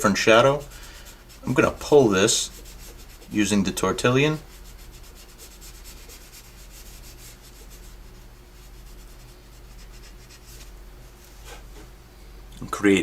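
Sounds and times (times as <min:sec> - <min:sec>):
paper stump rubbing on drawing paper: 0:00.0 - 0:11.9.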